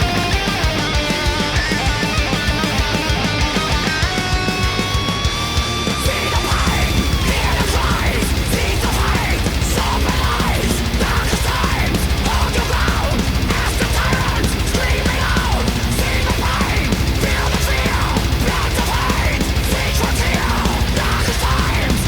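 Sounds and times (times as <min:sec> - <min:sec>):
heavy metal music: 0:00.0 - 0:22.0.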